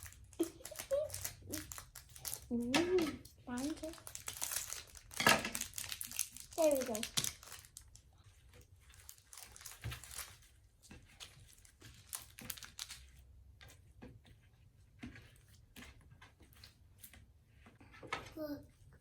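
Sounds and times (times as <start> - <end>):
faint crinkling and soft clicks: 0.0 - 19.0.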